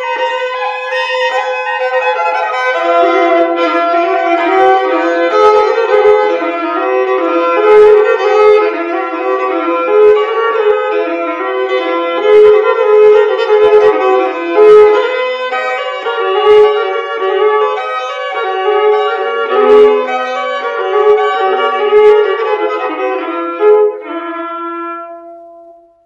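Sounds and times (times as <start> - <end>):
lively instrumental melody: 0.0 - 26.0.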